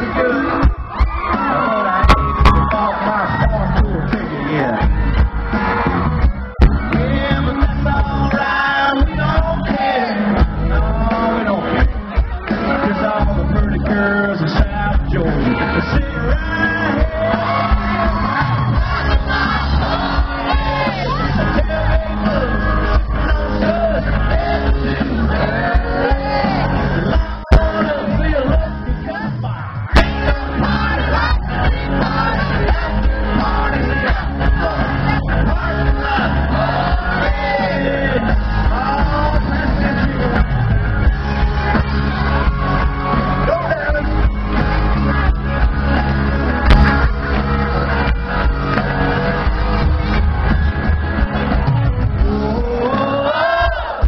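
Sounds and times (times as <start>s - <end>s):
crowd shouting: 0.0s - 54.0s
live band playing: 0.0s - 54.0s
loud music with steady bass: 0.0s - 54.0s
singer's lead vocal: 0.0s - 54.0s.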